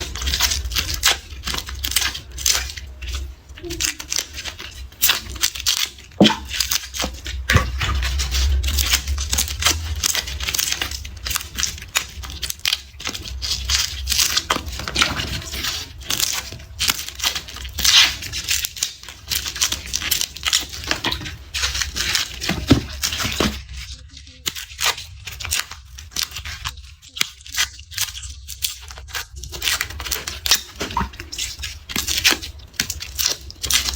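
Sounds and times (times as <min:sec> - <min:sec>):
garlic skins crackling and tearing: 0:00.0 - 0:33.9.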